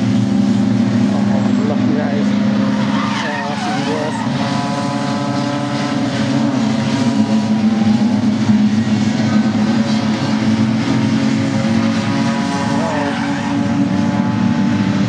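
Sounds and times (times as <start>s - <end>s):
racing car engines passing: 0.0s - 15.0s.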